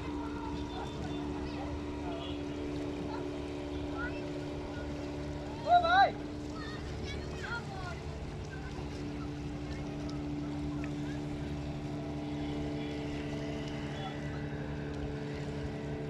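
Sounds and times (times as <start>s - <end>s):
motorboat engine running: 0.0s - 16.0s
water noise: 0.0s - 16.0s.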